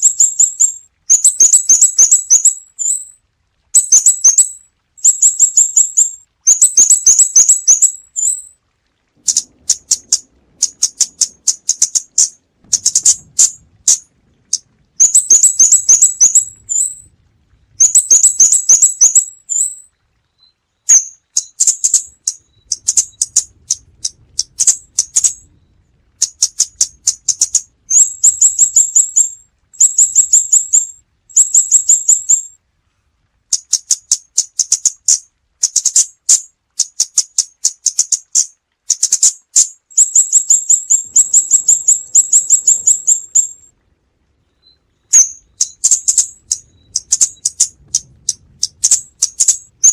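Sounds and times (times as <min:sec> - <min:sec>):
bird calling high ticks: 0:00.0 - 0:03.1, 0:03.8 - 0:08.5, 0:09.2 - 0:17.1, 0:17.8 - 0:19.8, 0:20.4 - 0:25.5, 0:26.2 - 0:32.5, 0:33.5 - 0:43.7, 0:44.6 - 0:49.9.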